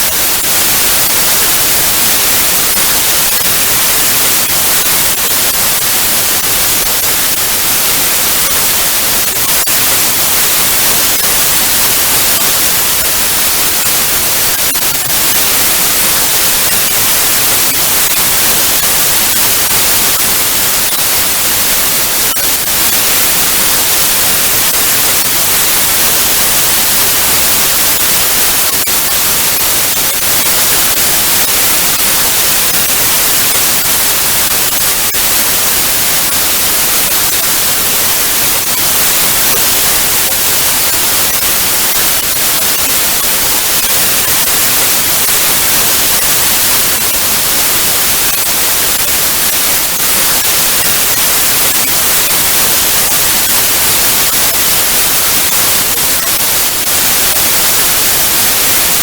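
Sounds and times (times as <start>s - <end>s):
tv static hiss: 0.0s - 59.0s.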